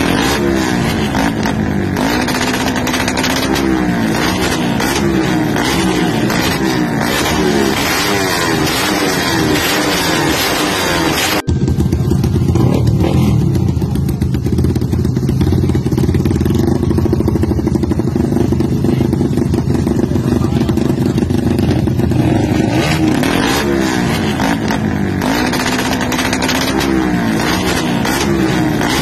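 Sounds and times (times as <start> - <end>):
motorcycle engines revving: 0.0 - 29.0.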